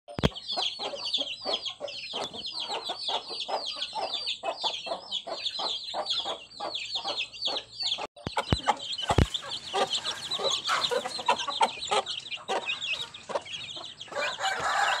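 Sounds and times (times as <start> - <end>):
chicks peeping: 0.1 - 15.0
hen clucking: 0.1 - 15.0.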